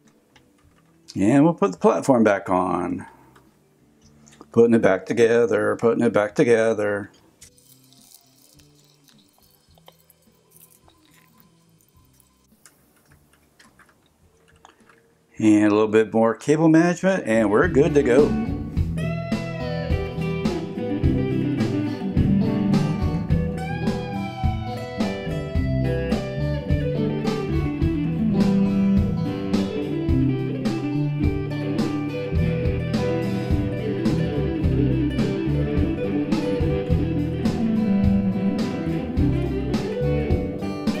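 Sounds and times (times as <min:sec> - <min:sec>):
bluesy guitar music: 0:00.0 - 0:41.0.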